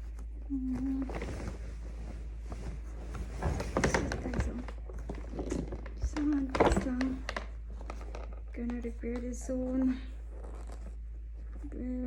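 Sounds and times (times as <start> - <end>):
fabric bag rustling and scraping: 0.6 - 8.5, 9.5 - 11.7.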